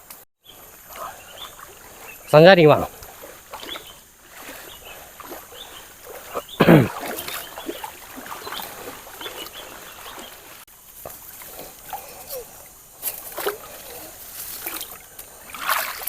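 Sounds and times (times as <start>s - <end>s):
water moving: 0.4s - 16.0s.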